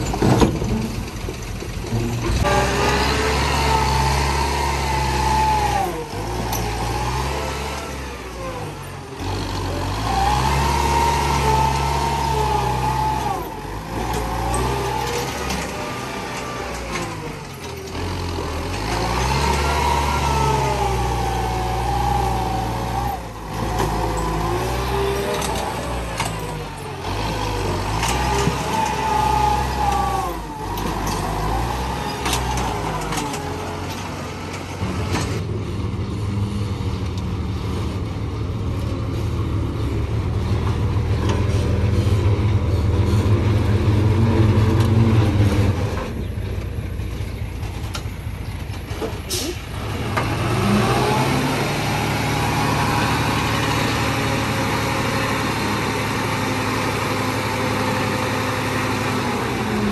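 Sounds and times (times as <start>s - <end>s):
dump truck diesel rumble: 0.0s - 59.9s
engine whine: 0.0s - 59.9s
tractor diesel engine working: 0.0s - 59.9s.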